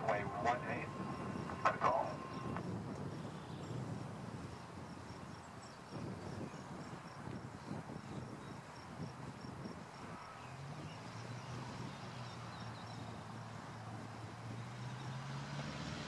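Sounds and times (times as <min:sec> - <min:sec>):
crickets chirping: 0:00.0 - 0:15.7
distant aircraft engine drone: 0:00.0 - 0:16.0.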